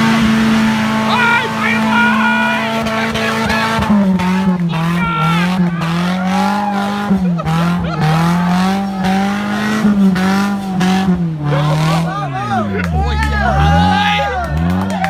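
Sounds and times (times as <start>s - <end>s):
engine revving under load: 0.0s - 15.0s
tyres squealing: 0.8s - 14.8s.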